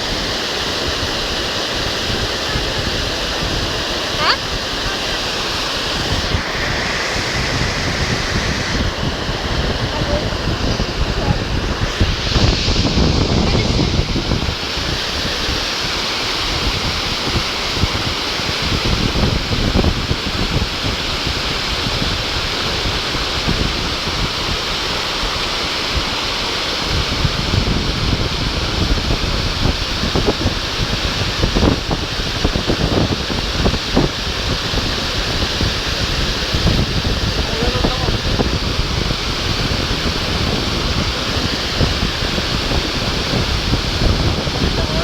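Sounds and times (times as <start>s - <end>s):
waterfall rushing: 0.0s - 45.0s
wind buffeting microphone: 0.0s - 45.0s.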